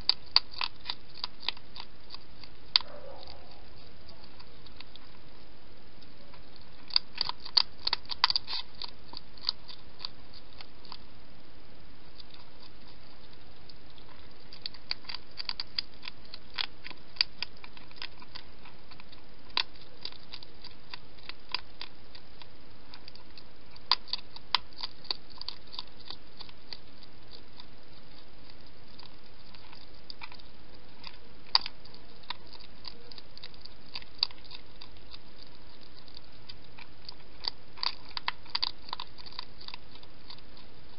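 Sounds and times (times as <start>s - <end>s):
hedgehog crunching food: 0.0s - 40.9s.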